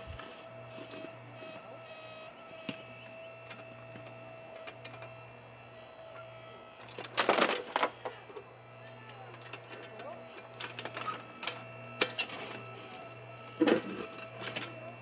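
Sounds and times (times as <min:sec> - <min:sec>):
electric motor hum and whine: 0:00.0 - 0:15.0.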